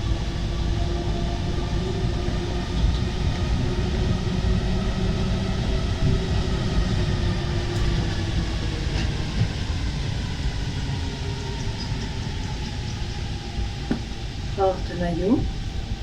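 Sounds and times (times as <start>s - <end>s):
faint whining tones: 0.0s - 16.0s
train low rumble: 0.0s - 16.0s.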